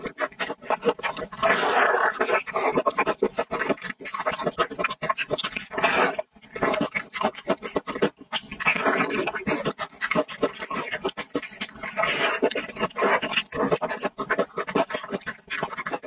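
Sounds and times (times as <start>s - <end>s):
crackly wet chewing: 0.0s - 16.0s.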